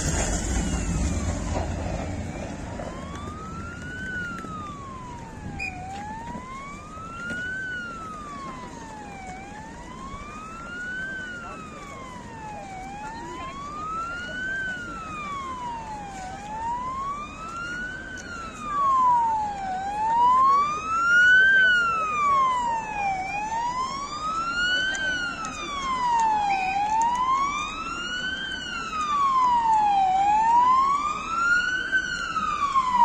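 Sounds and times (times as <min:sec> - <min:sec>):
emergency siren wailing: 0:00.0 - 0:33.0.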